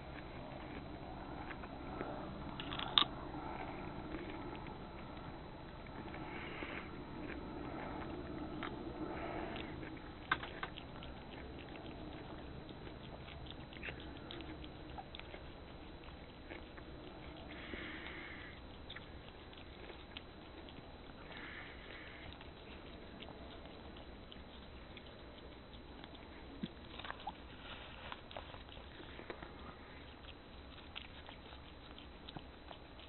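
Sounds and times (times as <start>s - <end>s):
cat licking and chewing: 0.0s - 33.0s.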